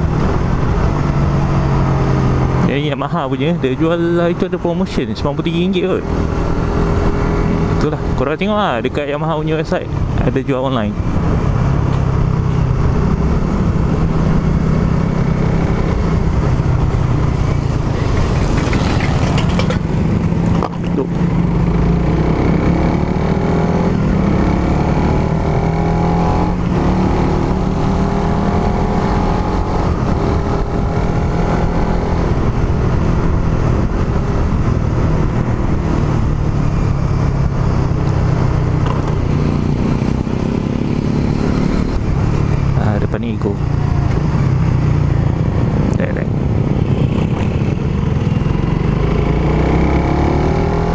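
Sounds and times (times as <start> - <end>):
motorcycle engine revving: 0.0 - 4.6, 5.2 - 9.1, 10.5 - 50.9.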